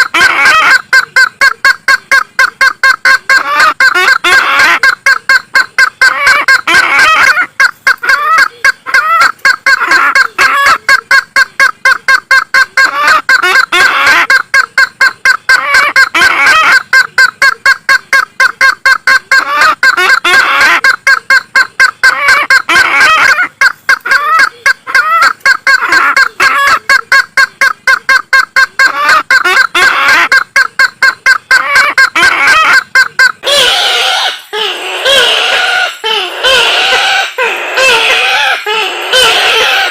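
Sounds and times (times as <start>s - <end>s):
bird calling harsh repeated notes: 0.0s - 39.9s.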